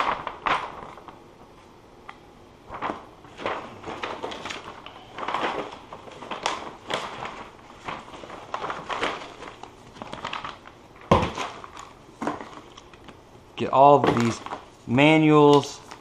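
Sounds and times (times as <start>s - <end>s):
paper and cardboard rustling: 0.0s - 1.2s, 2.7s - 13.2s, 13.9s - 16.0s.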